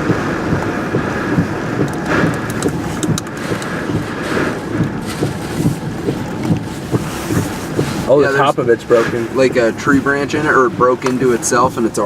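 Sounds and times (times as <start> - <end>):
low buffeting thumps: 0.0 - 12.0
rain: 0.0 - 12.0
wind gusting against microphone: 0.0 - 12.0.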